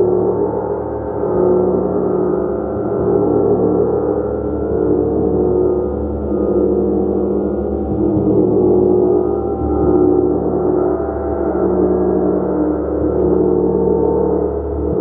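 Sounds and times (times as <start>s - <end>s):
large gong shimmering: 0.0s - 15.0s.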